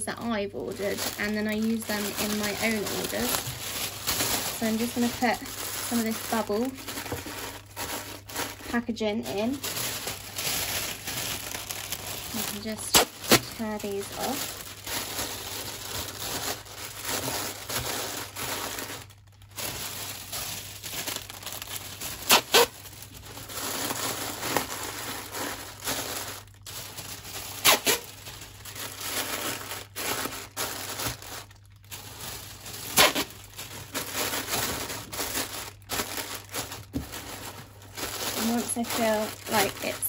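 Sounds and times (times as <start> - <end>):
plastic packaging crinkling: 0.0 - 40.0
sharp plastic crackles: 0.0 - 40.0.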